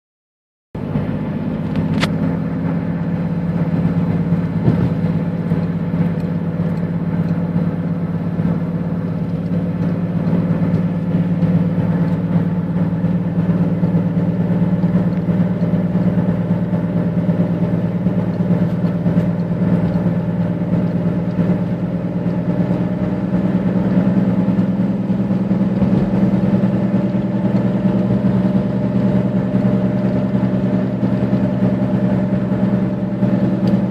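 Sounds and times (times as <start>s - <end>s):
car engine and road noise drone: 0.8s - 33.9s.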